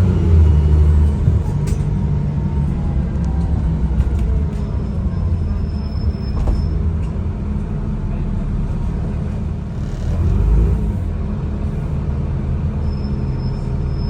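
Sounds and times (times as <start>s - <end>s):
bus diesel engine rumbling: 0.0s - 14.0s.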